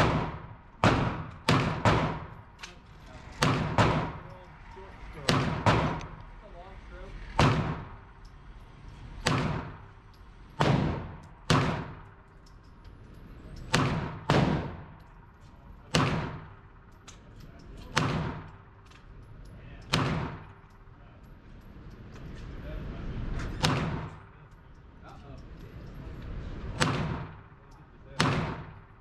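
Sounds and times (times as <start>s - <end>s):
gunshots echoing indoors: 0.0s - 6.2s, 7.1s - 19.2s, 19.8s - 20.9s, 23.3s - 24.3s, 25.8s - 29.0s.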